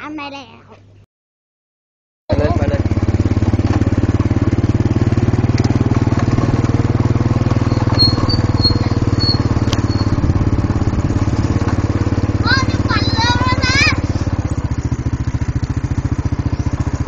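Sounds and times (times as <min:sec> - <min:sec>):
motorcycle engine running: 0:02.3 - 0:17.0.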